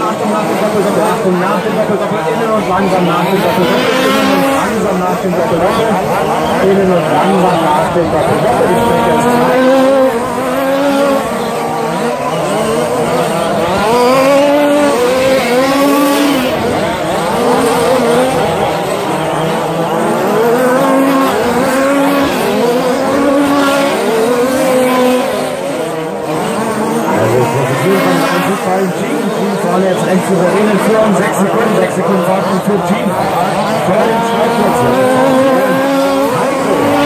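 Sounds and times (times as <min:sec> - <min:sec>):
rc truck motors revving: 0:00.0 - 0:37.0.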